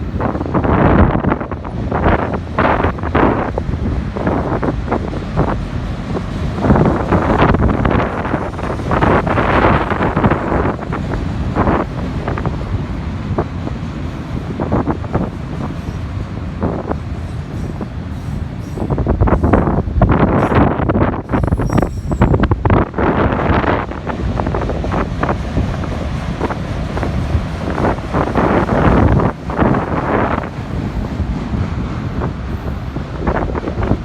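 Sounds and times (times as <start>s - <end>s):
freight train rumbling past: 0.0s - 34.0s
wind buffeting microphone: 0.0s - 34.0s.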